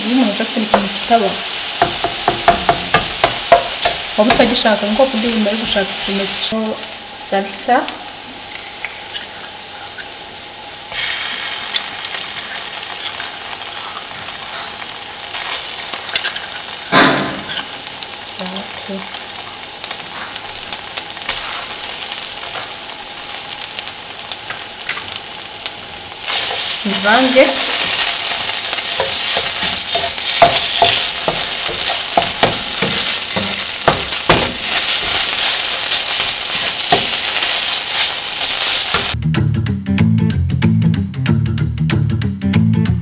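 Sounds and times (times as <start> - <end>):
vegetables sizzling in oil: 0.0 - 39.2.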